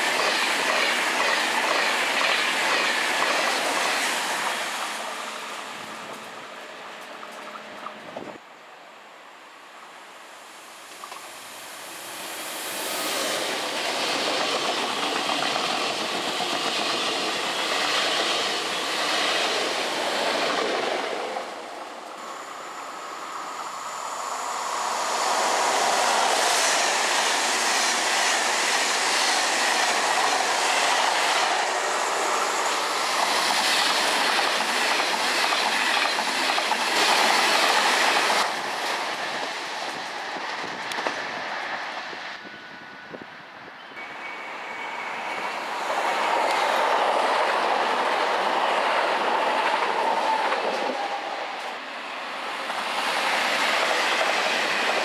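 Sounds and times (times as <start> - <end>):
electric train passing at speed: 0.0 - 55.0
high-speed train passing: 0.0 - 55.0.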